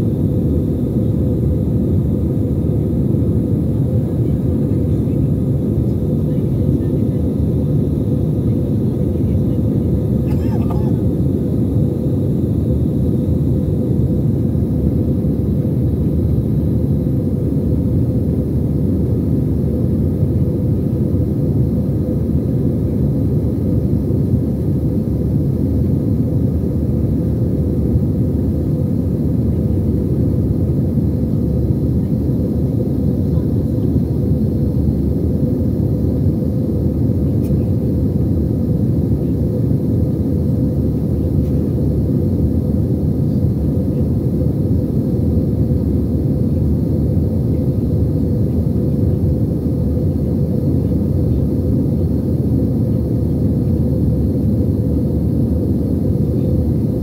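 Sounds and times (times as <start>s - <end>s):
airliner cabin low rumble: 0.0s - 57.0s
faint steady hum: 0.0s - 57.0s.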